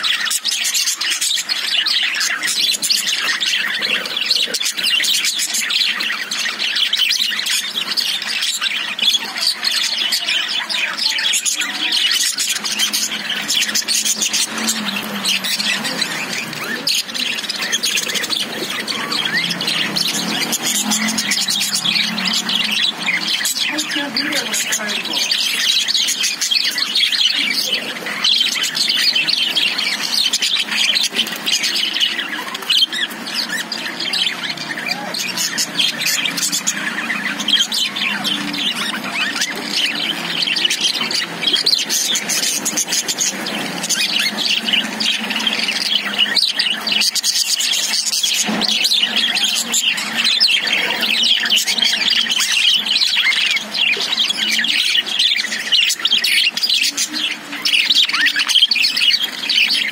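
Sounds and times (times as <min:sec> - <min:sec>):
budgerigars chirping: 0:00.0 - 0:59.9.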